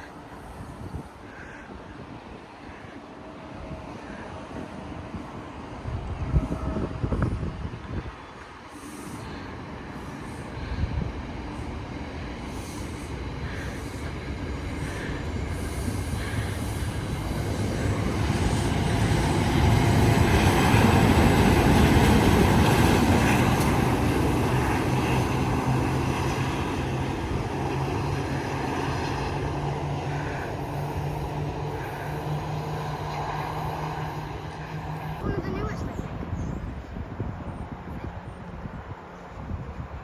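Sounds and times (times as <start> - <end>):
passenger train rumbling past: 0.0 - 40.0.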